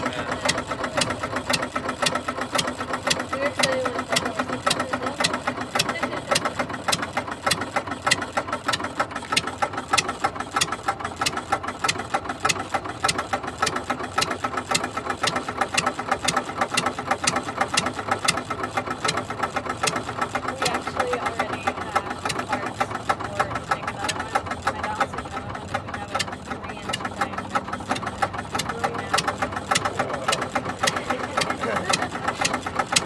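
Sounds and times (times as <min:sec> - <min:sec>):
engine clattering: 0:00.0 - 0:33.0.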